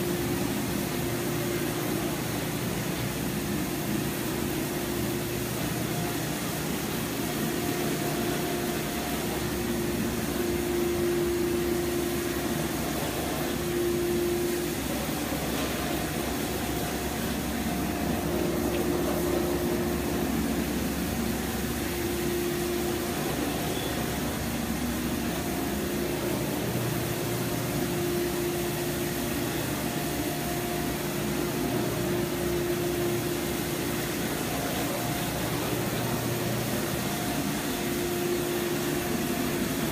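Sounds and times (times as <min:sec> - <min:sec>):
motor hum: 0:00.0 - 0:39.9
vacuum suction roar: 0:00.0 - 0:39.9.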